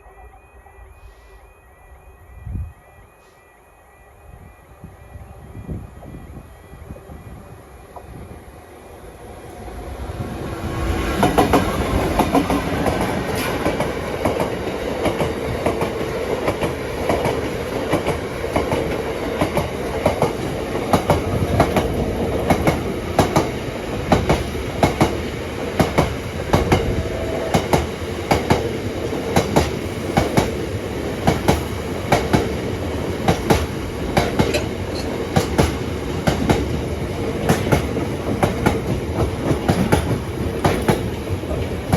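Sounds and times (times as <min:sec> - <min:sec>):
freight train rumbling past: 0:00.0 - 0:41.9.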